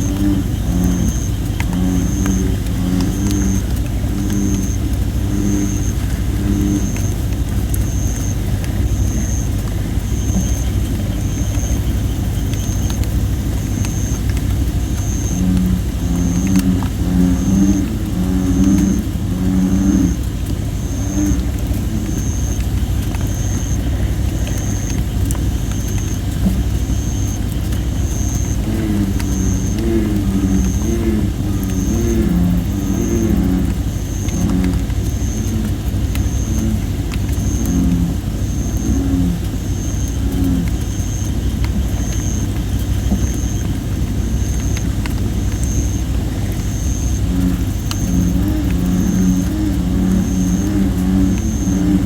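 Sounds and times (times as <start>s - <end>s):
bullfrogs calling: 0.0s - 52.0s
campfire hissing and crackling: 0.0s - 52.0s
steady low drone: 0.0s - 52.0s.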